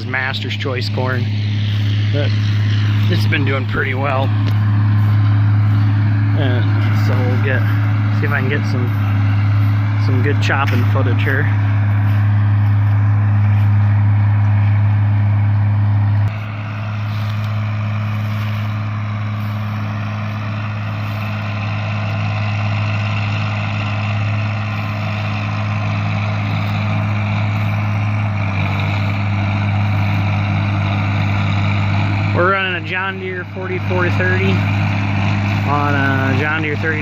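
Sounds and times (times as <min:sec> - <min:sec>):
forage harvester chopper whir: 0:00.0 - 0:37.0
tractor diesel engine under load: 0:00.0 - 0:37.0.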